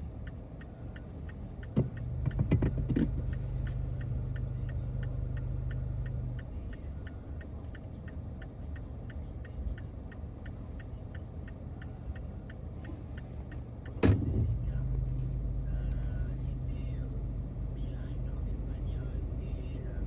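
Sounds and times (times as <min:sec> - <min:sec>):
turn signal ticking: 0:00.0 - 0:17.6
car rumble from inside: 0:00.0 - 0:20.0.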